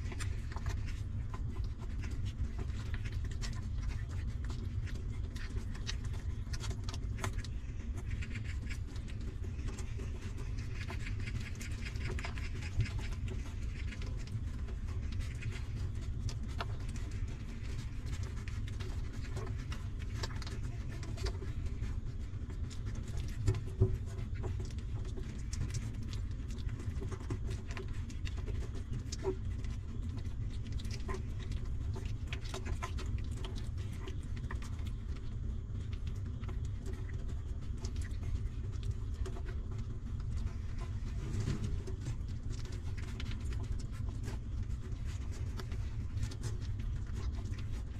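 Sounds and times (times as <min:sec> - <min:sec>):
puppies suckling wet clicks: 0:00.0 - 0:47.9
steady low rumble: 0:00.0 - 0:47.9.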